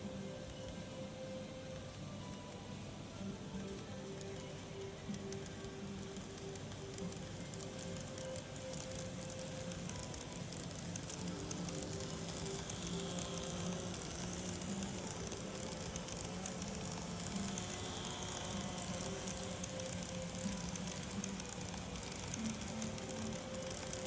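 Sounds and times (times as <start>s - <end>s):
model train wheels rolling on rail: 0.0s - 24.0s.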